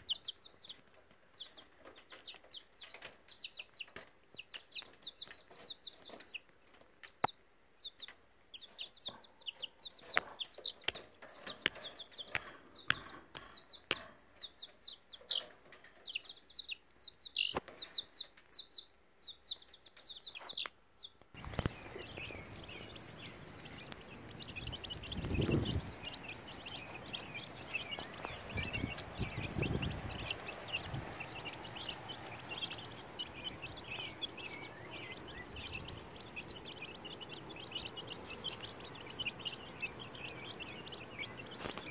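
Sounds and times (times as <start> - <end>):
baby chicks peeping: 0.0 - 41.9.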